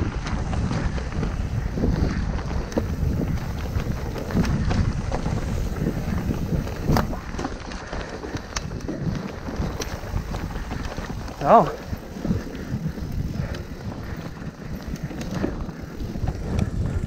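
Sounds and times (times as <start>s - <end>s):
bike clicks and rattles: 0.0s - 17.0s
tyre rumble: 0.0s - 17.0s
wind buffeting microphone: 0.0s - 17.0s.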